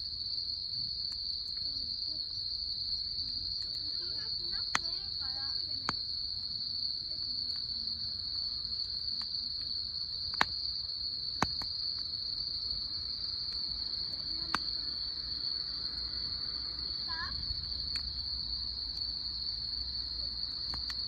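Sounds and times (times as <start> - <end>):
insect trill: 0.0 - 21.0
wood fire crackling: 0.0 - 21.0.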